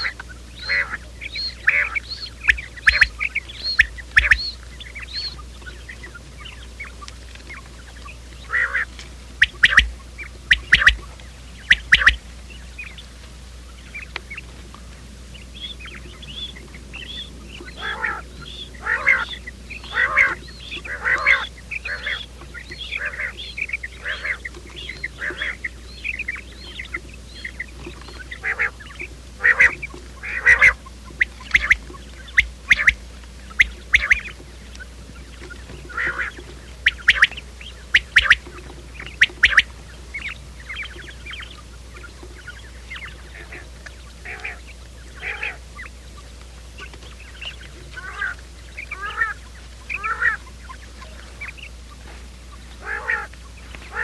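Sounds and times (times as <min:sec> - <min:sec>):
quail chirping calls: 0:00.0 - 0:54.0
steady low hum: 0:00.0 - 0:54.0.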